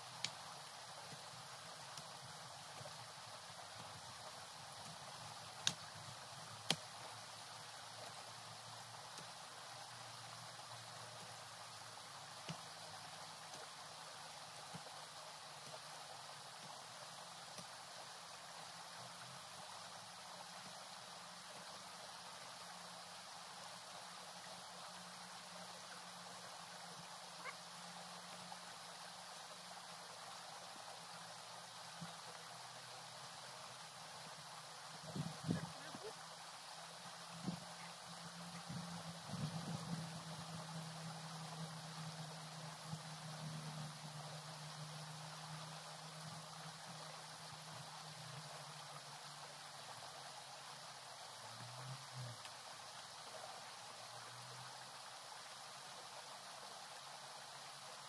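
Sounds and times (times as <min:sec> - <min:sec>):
outdoor hiss: 0:00.0 - 0:58.0.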